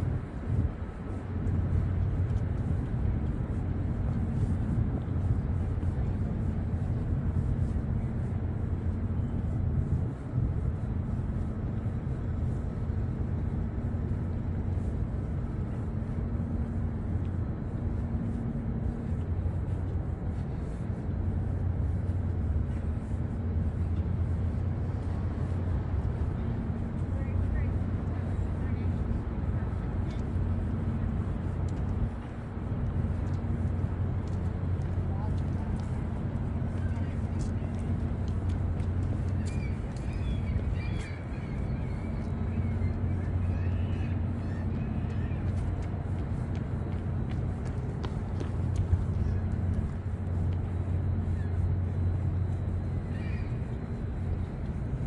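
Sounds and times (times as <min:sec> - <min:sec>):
city rumble: 0:00.0 - 0:55.0
mechanical hum: 0:00.0 - 0:55.0.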